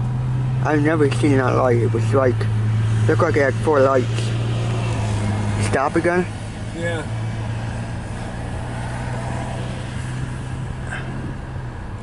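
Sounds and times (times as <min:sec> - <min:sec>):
idling vehicle engine hum: 0:00.0 - 0:12.0.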